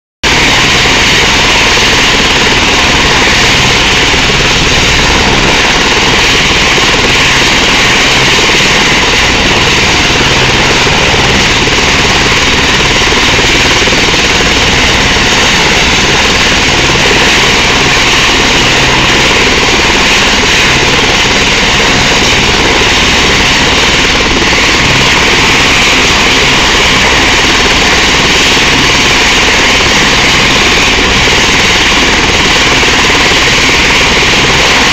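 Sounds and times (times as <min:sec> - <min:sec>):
helicopter turbine and rotor: 0:00.2 - 0:34.9.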